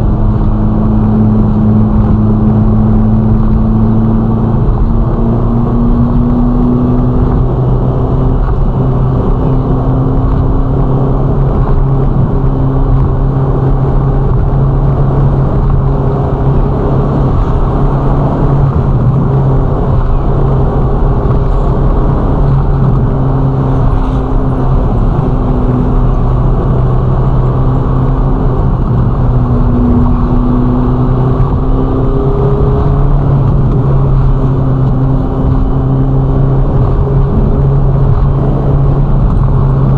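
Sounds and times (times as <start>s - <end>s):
car engine drone: 0.0s - 39.9s
road noise rushing: 0.0s - 39.9s.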